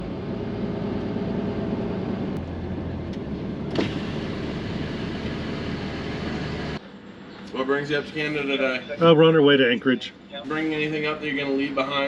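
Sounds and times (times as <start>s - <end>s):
truck engine low drone: 0.0s - 12.0s.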